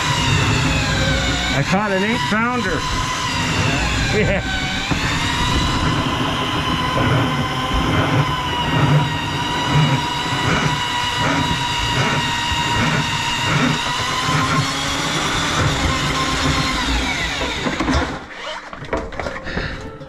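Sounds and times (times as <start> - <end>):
drain snake motor whine: 0.0 - 18.1.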